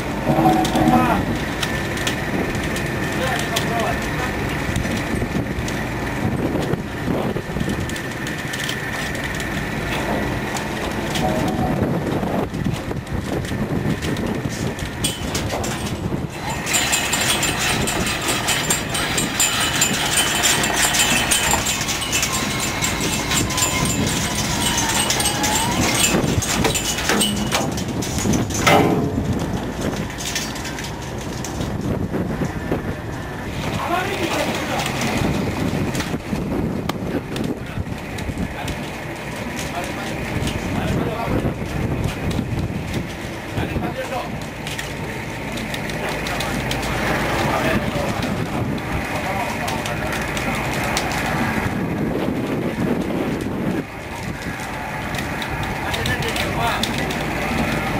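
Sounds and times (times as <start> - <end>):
boat engine running: 0.0 - 57.9
gear clicking and rattling: 0.0 - 57.9
wind: 0.0 - 57.9.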